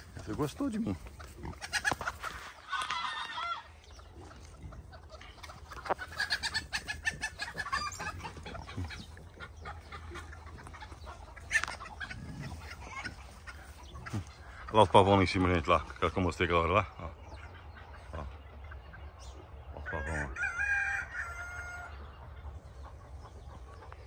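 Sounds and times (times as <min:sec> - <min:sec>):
fowl clucking and calling: 0:00.0 - 0:24.0.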